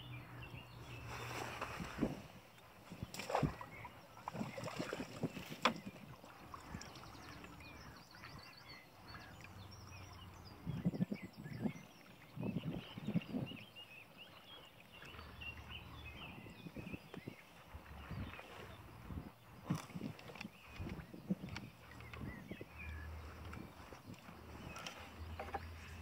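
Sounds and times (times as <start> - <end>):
birds twittering: 0.0 - 26.0
wind buffeting microphone: 0.3 - 13.8, 15.1 - 26.0.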